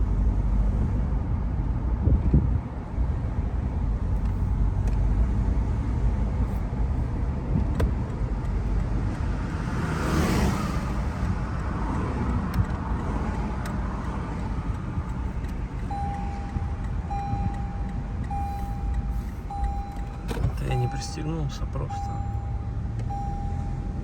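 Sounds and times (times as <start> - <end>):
road and engine noise in car: 0.0 - 24.0.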